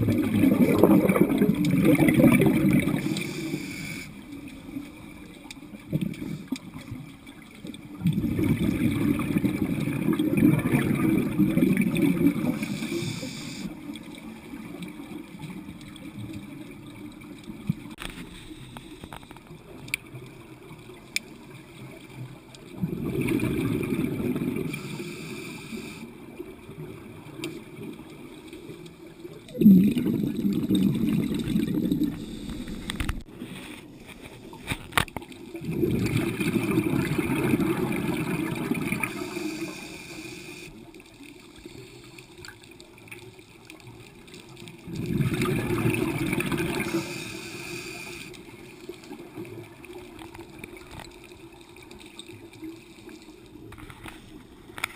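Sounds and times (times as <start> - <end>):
gurgling exhaust bubbles underwater: 0.0 - 33.5, 34.5 - 54.9.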